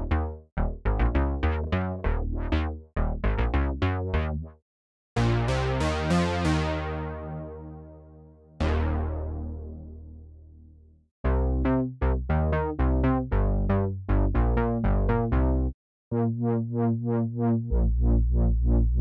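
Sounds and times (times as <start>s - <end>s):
synthesizer bass notes: 0.0s - 4.5s, 5.2s - 10.5s, 11.3s - 19.0s.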